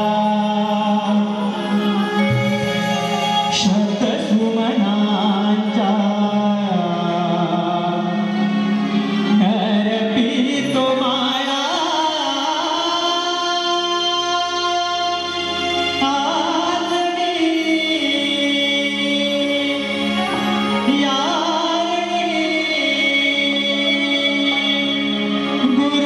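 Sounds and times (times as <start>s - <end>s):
man singing devotional song: 0.0s - 2.7s, 3.4s - 26.0s
sustained instrumental accompaniment: 0.0s - 26.0s.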